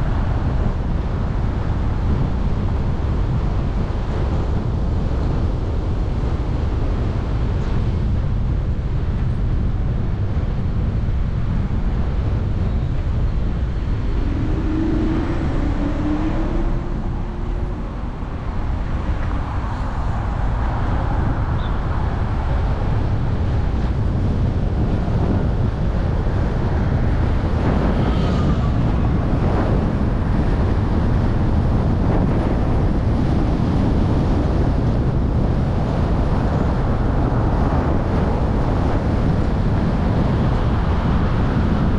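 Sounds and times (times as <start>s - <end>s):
car road noise: 0.0s - 41.7s
wind buffeting microphone: 0.0s - 41.9s.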